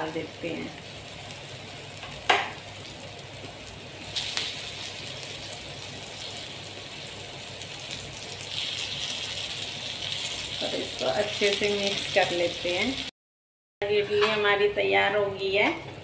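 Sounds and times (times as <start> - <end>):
oil sizzling in a frying pan: 0.0 - 13.1.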